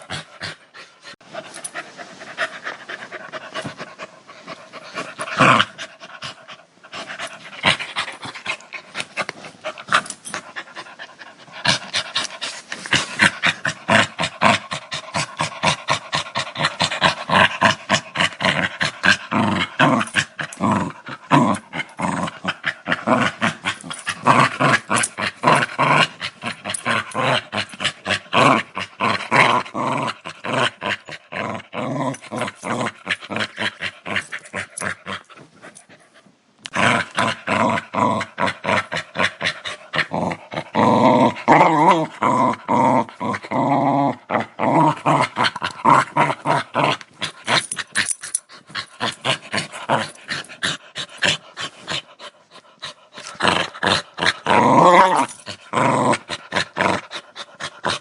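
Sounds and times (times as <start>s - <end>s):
dog growling: 4.5s - 35.4s, 36.6s - 58.0s.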